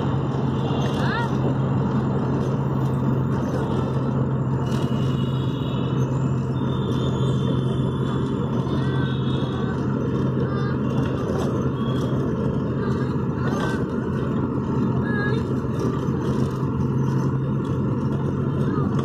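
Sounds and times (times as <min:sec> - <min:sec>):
car engine and road noise: 0:00.0 - 0:19.0
low hum: 0:00.0 - 0:19.0.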